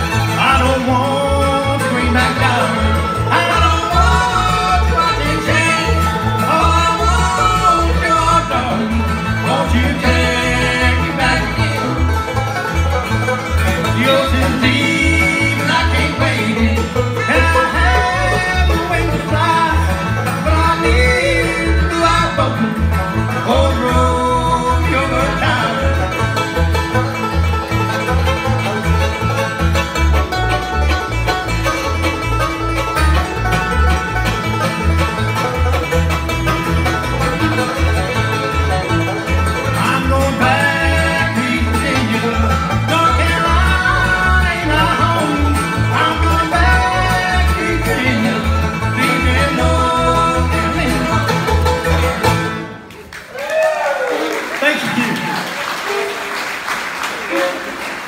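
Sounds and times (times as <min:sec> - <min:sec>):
fiddle: 0:00.0 - 0:52.9
acoustic guitar: 0:00.0 - 0:53.2
banjo: 0:00.0 - 0:53.2.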